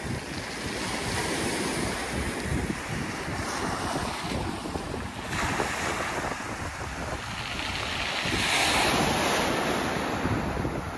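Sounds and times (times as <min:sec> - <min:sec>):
surf washing over pebbles: 0:00.0 - 0:10.9
wind rumbling on microphone: 0:00.0 - 0:10.9.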